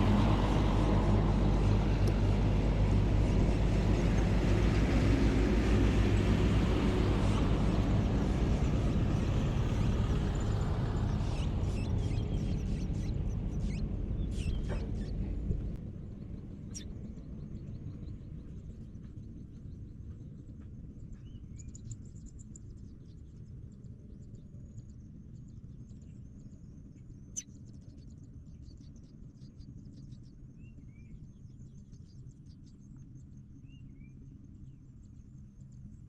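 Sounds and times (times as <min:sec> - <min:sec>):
low steady rumble: 0:00.0 - 0:36.0.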